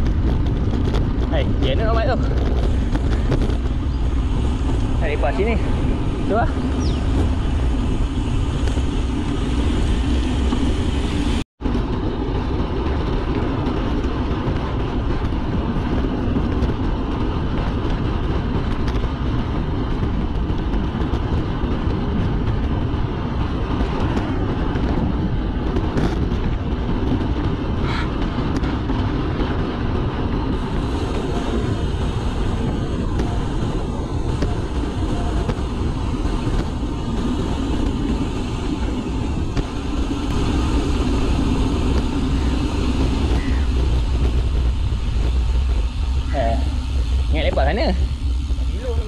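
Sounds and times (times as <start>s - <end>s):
wind noise on microphone: 0.0s - 49.0s.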